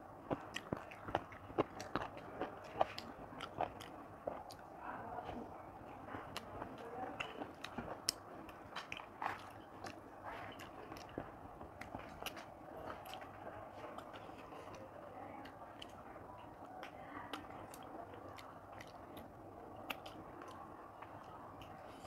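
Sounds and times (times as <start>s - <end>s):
mouth chewing clicks and smacks: 0.1s - 22.0s.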